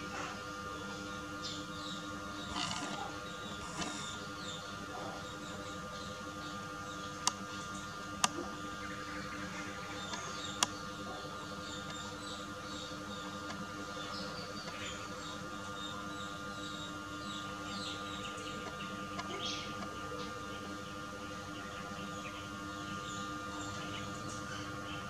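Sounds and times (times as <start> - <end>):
small birds chirping: 0.0 - 25.0
steady hum: 0.0 - 25.0.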